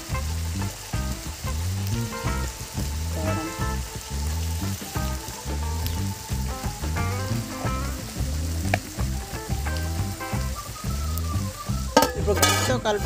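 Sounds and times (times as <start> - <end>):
background music with heavy bass: 0.0 - 13.0.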